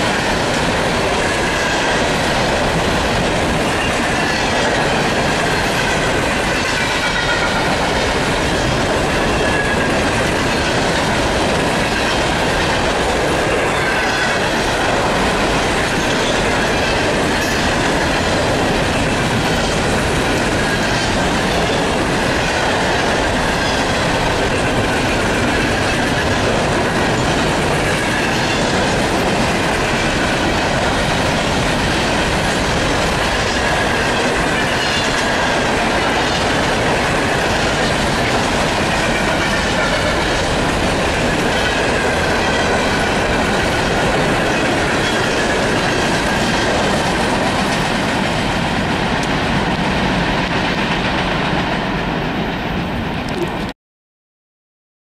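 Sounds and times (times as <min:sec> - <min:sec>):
train wheels rumbling on rails: 0:00.0 - 0:53.7.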